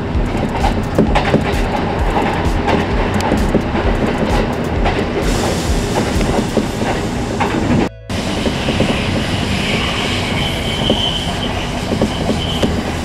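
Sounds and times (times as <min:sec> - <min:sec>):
train rumble: 0:00.0 - 0:13.0
train wheels clattering over joints: 0:00.0 - 0:13.0.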